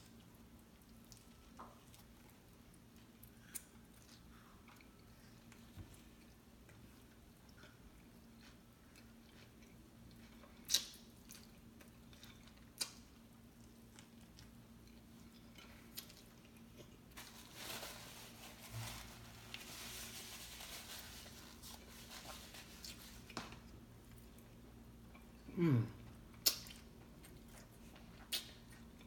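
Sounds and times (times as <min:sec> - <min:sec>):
person chewing sandwich: 0:00.0 - 0:17.2, 0:18.2 - 0:29.0.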